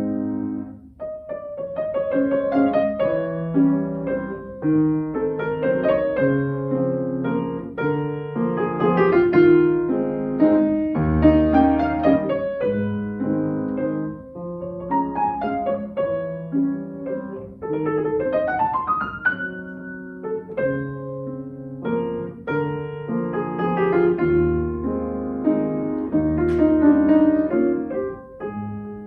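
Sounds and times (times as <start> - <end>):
solo piano classical piece: 0.0 - 29.0.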